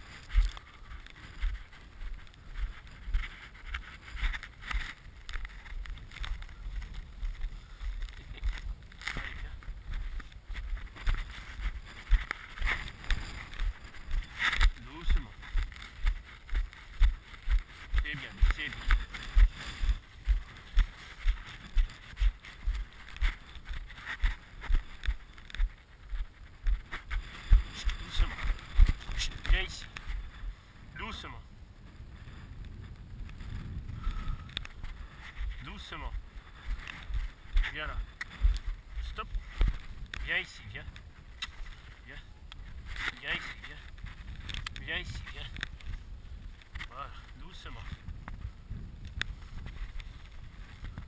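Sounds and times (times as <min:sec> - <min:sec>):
swishing and crunching in snow: 0:00.0 - 0:51.0
wind rumbling on microphone: 0:00.0 - 0:51.0.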